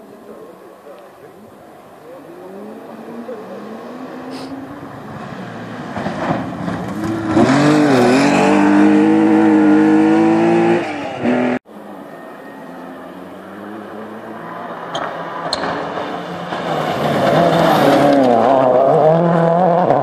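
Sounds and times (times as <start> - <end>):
rally car engine at high revs: 2.0 - 11.6, 13.4 - 20.0.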